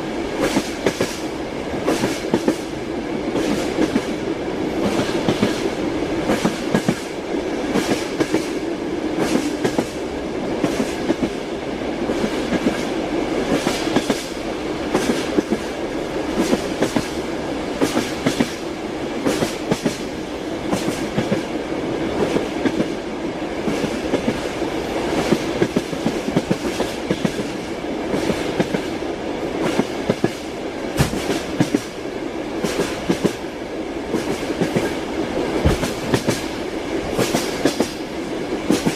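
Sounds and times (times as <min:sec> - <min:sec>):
train wheels clacking: 0:00.0 - 0:10.0, 0:10.6 - 0:11.4, 0:12.1 - 0:17.2, 0:17.8 - 0:21.6, 0:23.6 - 0:29.0, 0:29.6 - 0:32.0, 0:32.6 - 0:33.5, 0:34.1 - 0:38.9
railway carriage rumble: 0:00.0 - 0:38.9.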